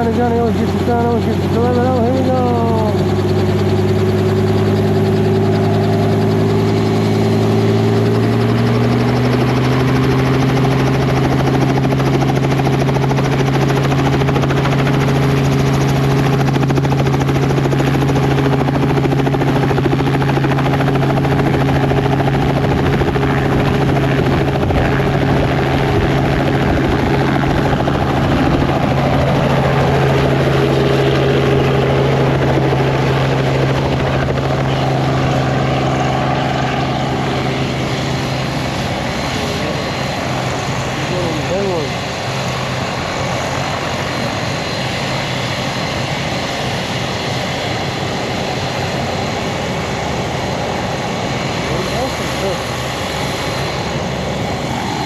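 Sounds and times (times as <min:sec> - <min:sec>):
helicopter running: 0:00.0 - 0:55.0.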